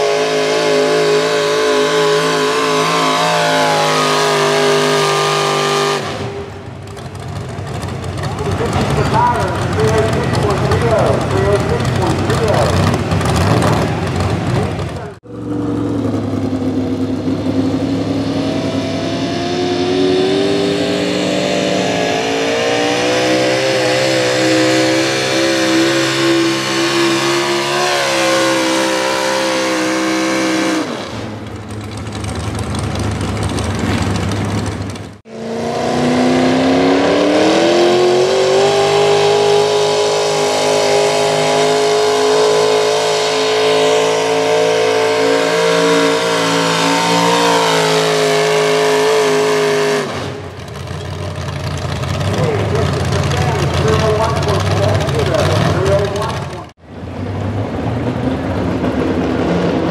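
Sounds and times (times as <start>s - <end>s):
truck engine at full throttle: 0.0s - 59.9s.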